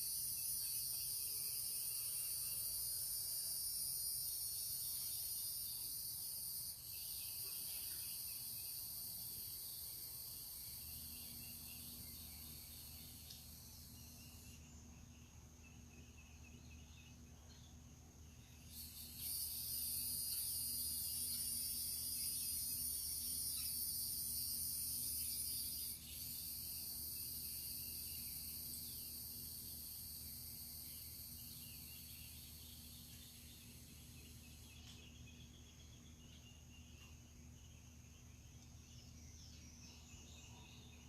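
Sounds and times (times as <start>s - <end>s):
high-pitched insect chorus: 0.0s - 41.0s
low steady hum: 4.3s - 41.0s.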